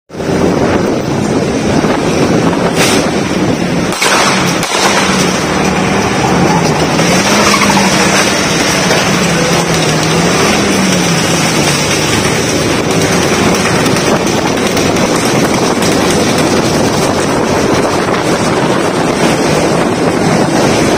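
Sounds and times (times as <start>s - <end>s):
car engine: 0.1s - 20.9s
road and wind noise: 0.1s - 20.9s.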